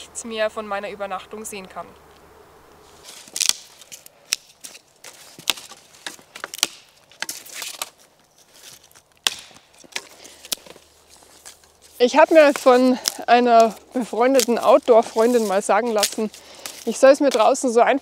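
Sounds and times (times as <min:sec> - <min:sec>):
rustling: 0:01.1 - 0:18.0
dry sticks snapping: 0:02.1 - 0:17.7.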